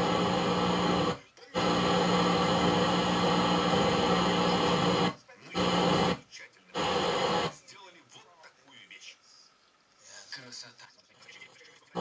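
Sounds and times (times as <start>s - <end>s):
faint hum: 0.0s - 12.0s
radio static hiss: 0.0s - 12.0s.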